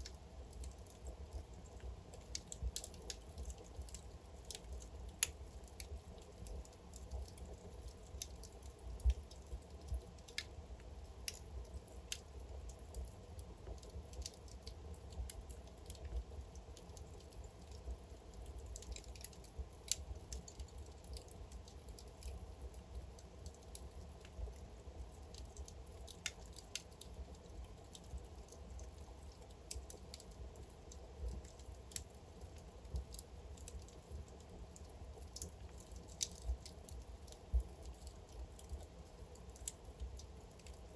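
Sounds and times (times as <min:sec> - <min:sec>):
logs crackling and popping: 0:00.0 - 0:40.9
low rumble of flame: 0:00.0 - 0:40.9.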